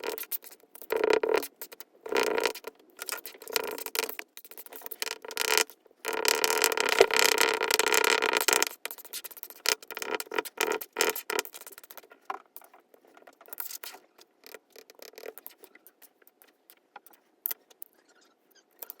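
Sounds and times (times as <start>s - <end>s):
small objects crinkling and clicking: 0.0s - 17.9s, 18.8s - 19.0s.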